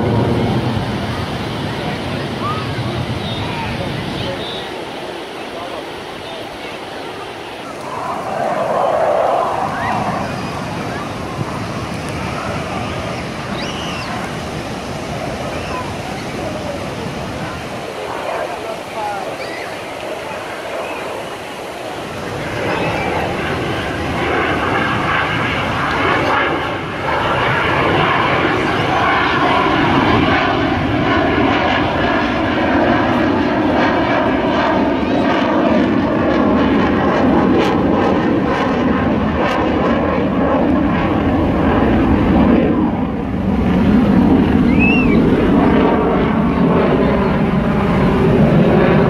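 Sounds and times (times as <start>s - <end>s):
fighter jet flying overhead: 0.0s - 49.0s.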